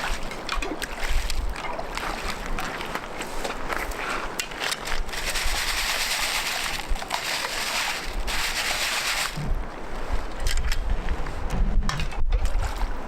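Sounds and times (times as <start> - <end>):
water rushing: 0.0 - 11.7
water sloshing and splashing: 0.0 - 13.0.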